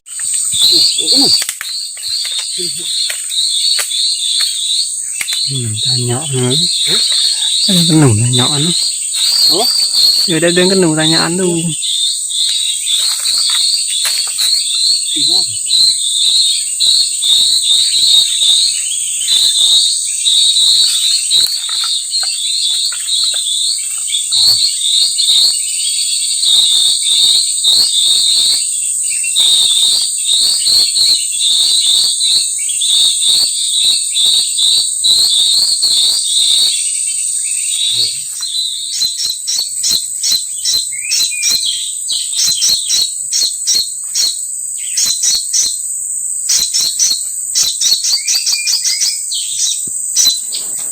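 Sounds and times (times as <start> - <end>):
dry ticking bird calls: 0.0 - 50.9
high-pitched insect drone: 0.0 - 50.9
small birds chirping: 0.0 - 50.9.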